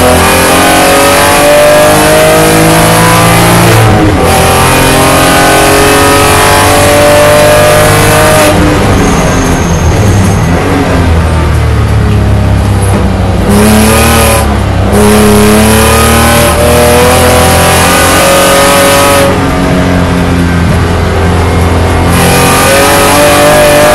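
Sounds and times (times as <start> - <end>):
race car engine accelerating: 0.0 - 23.9.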